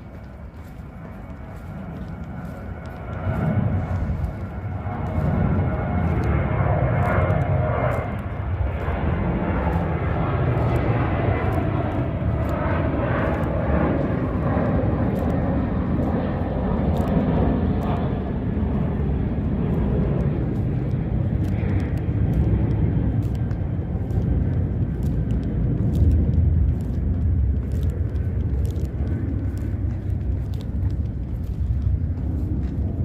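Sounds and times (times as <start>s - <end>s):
jet airliner flying overhead: 0.0s - 33.0s.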